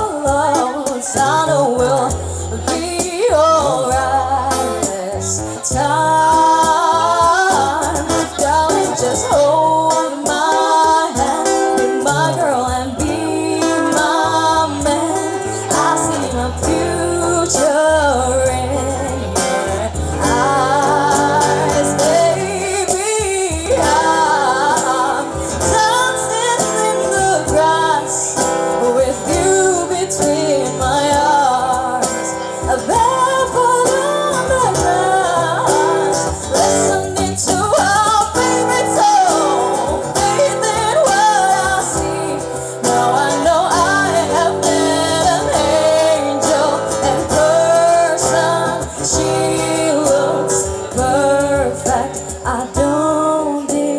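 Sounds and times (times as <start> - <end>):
song with sung melody: 0.0 - 53.9.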